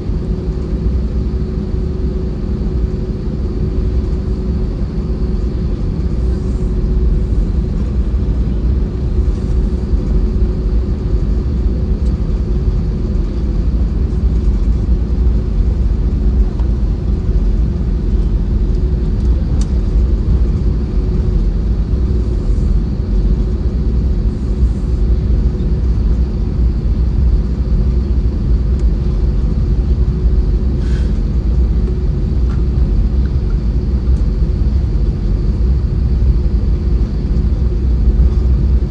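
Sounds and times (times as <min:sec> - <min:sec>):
constant hum: 0:00.0 - 0:38.9
jet engine rumble in cabin: 0:00.0 - 0:38.9.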